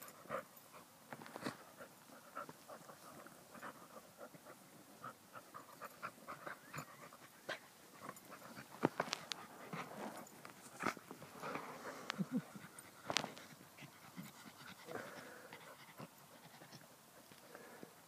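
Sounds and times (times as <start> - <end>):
rustling: 0.0 - 17.8
dogs panting: 0.0 - 17.9.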